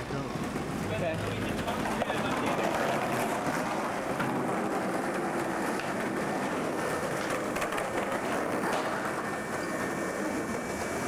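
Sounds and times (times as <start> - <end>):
skateboard wheels rolling on paving: 0.0 - 11.0
wheels clicking over joints: 0.2 - 10.6.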